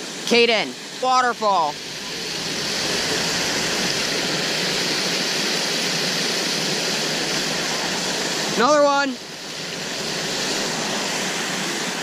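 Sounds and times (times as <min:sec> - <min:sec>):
water pouring over spillway: 0:01.6 - 0:12.0.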